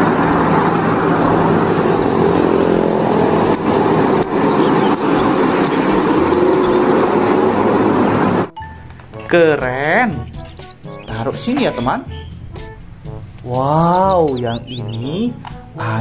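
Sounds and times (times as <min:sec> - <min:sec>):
truck engine with road noise: 0:00.0 - 0:15.8.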